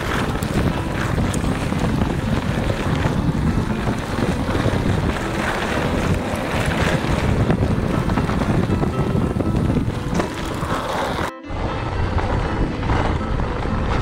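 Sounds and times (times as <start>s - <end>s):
bike tyres rolling over dirt: 0.0s - 14.0s
wind buffeting microphone: 0.0s - 14.0s.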